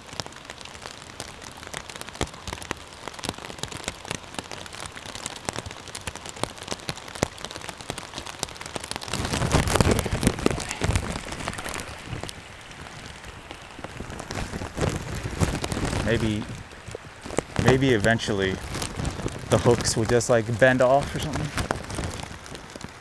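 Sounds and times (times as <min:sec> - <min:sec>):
rain drops ticking on camera: 0:00.0 - 0:23.0
steady rain hiss: 0:00.0 - 0:23.0.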